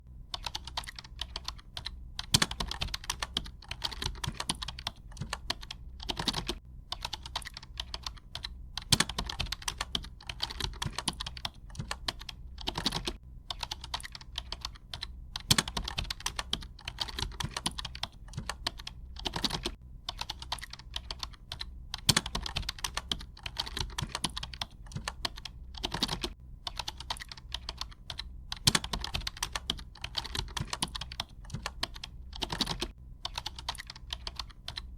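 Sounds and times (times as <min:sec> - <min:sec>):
computer keyboard typing: 0:00.3 - 0:34.9.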